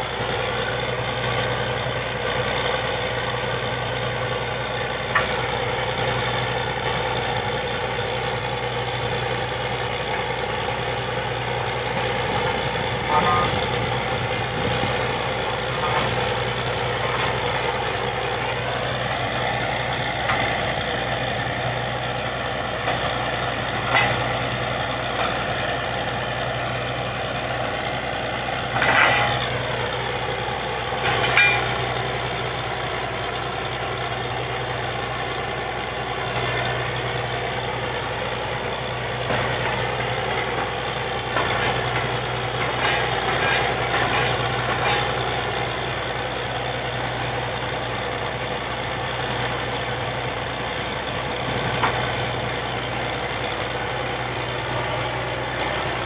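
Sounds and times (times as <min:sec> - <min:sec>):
drilling rig engine running: 0:00.0 - 0:56.0.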